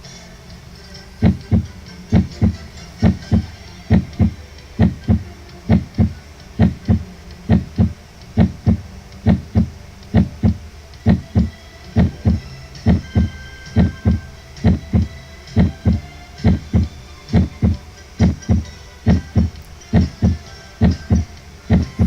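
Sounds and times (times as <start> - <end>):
heartbeat lub-dub: 1.2 - 22.0.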